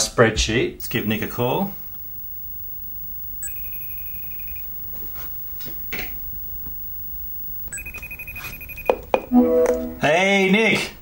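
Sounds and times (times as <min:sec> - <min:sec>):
electronic call ringing: 0:00.8 - 0:10.2.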